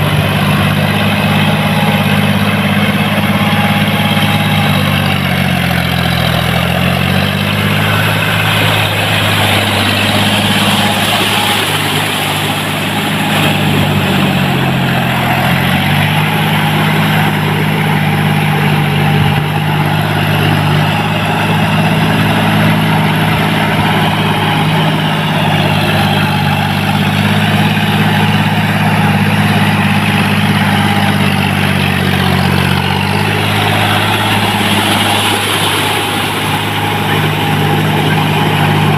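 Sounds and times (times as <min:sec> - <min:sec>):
tractor diesel engine running: 0:00.0 - 0:38.9
wheels churning through mud: 0:00.0 - 0:38.9.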